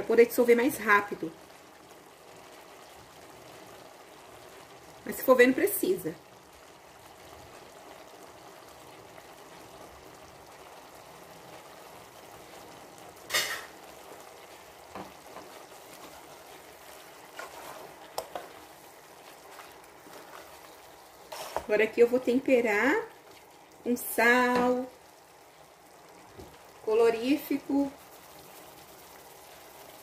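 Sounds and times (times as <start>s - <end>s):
pot simmering with soft sizzle: 0.0s - 30.0s.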